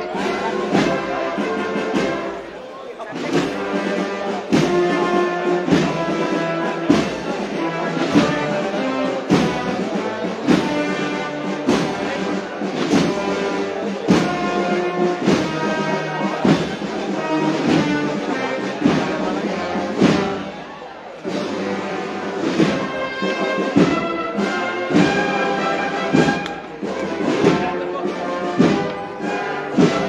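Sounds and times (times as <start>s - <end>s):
wind band playing a march: 0.0s - 30.0s.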